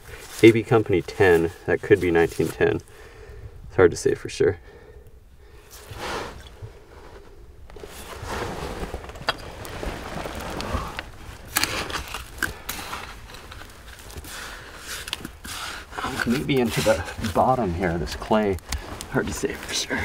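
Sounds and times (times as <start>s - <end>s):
digging through gritty soil: 0.0s - 2.9s, 5.6s - 20.0s.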